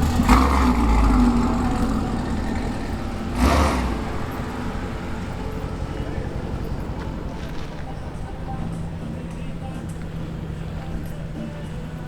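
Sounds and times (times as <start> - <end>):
car engine and exhaust driving: 0.0 - 12.0.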